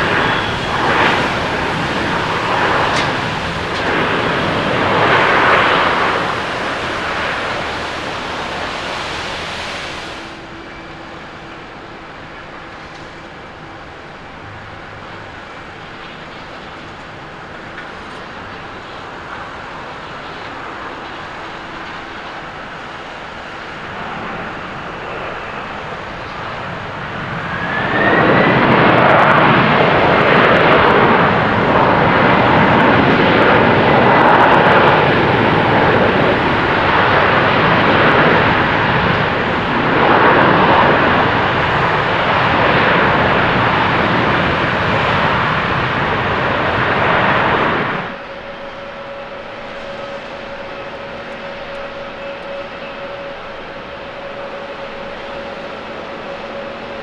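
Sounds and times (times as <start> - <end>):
reverse thrust roar: 0.0 - 12.9, 22.6 - 57.0
airliner jet rush: 0.0 - 57.0
rising engine whine: 0.0 - 57.0.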